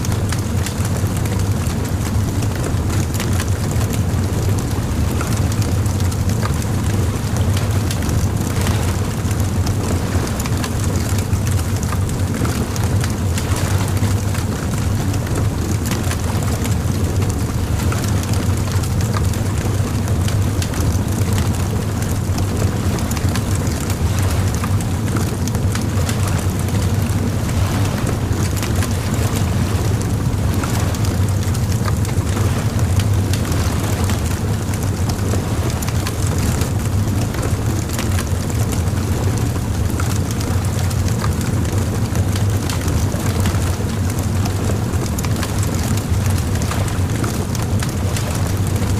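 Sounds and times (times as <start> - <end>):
low fire rumble: 0.0 - 48.9.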